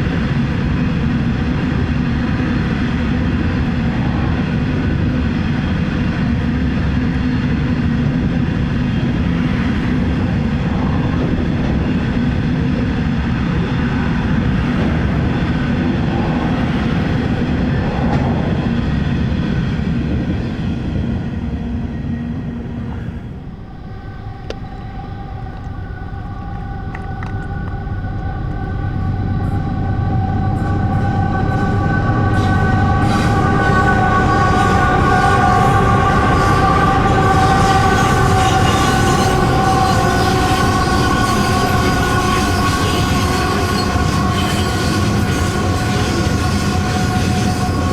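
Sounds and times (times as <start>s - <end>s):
diesel train approaching: 0.0s - 47.9s
empty train rumbling past: 0.0s - 47.9s.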